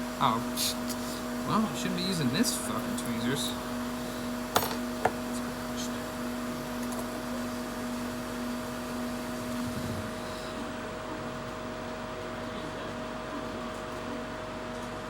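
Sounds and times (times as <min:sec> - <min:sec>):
hot air blower whirring: 0:00.0 - 0:15.0.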